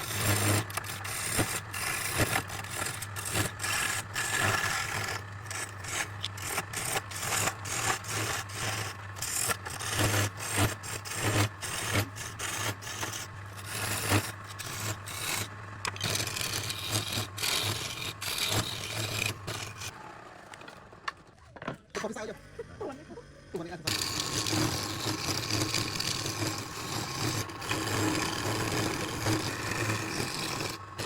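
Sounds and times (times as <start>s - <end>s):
tool rasping against wood: 0.0s - 19.9s, 23.9s - 31.0s
lathe motor humming: 0.0s - 20.0s, 23.5s - 31.0s.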